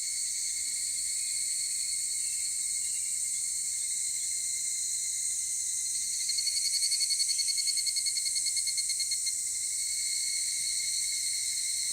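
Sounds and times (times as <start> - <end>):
cicada pulsed call: 0.0 - 11.9.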